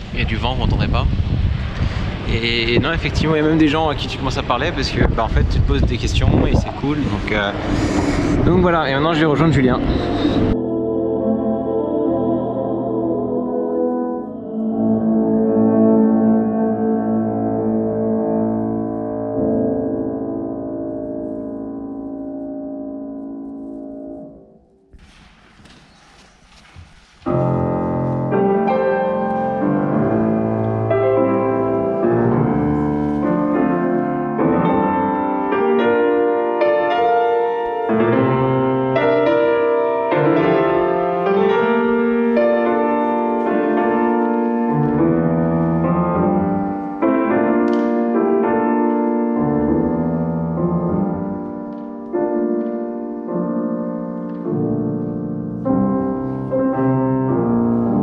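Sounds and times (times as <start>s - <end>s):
grand piano classical music: 0.0s - 58.0s.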